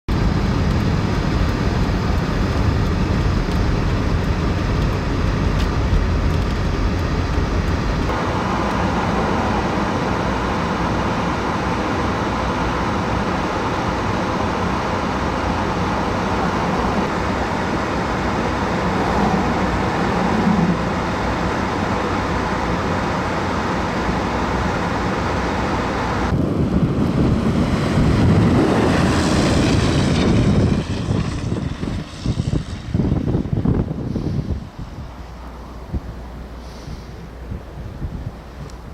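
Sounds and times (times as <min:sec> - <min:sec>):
vehicle road noise on snow: 0:00.1 - 0:38.9.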